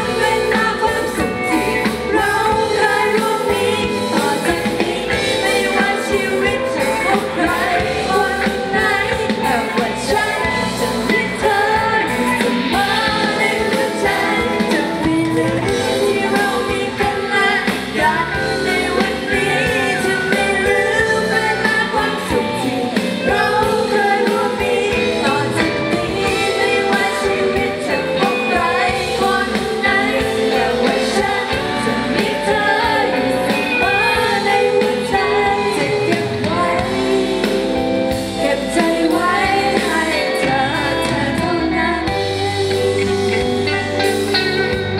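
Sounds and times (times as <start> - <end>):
live pop-rock band with singer: 0.0 - 44.9.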